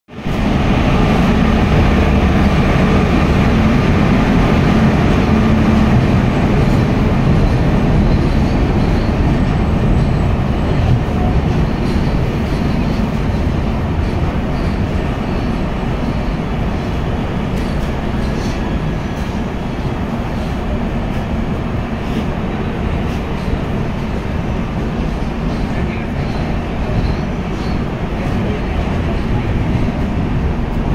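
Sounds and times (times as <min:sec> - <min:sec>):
train wheels rumbling on rails: 0:00.1 - 0:30.9.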